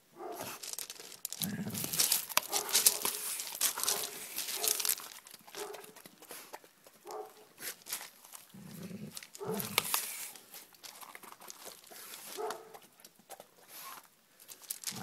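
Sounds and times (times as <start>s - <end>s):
paws crunching on gravel: 0.2s - 13.0s, 14.4s - 15.0s
dog snuffling: 0.2s - 14.1s.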